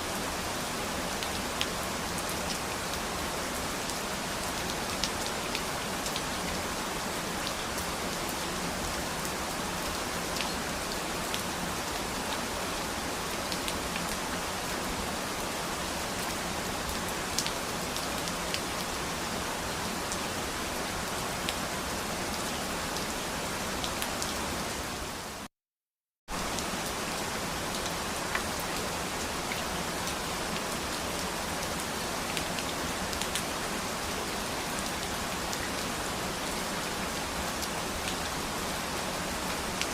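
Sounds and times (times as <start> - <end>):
steady rain falling: 0.0 - 25.5, 26.3 - 39.9.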